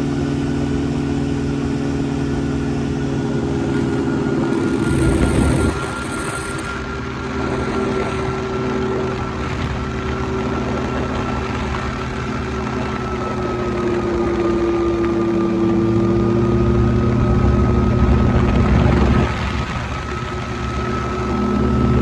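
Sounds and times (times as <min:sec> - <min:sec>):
ultralight engine and propeller: 0:00.0 - 0:22.0.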